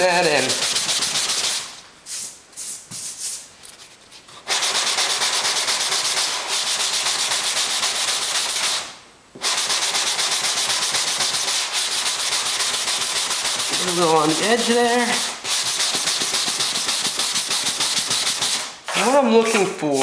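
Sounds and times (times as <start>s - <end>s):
sandpaper rasping on fibreglass: 0.2s - 1.7s, 4.4s - 8.8s, 9.4s - 20.0s.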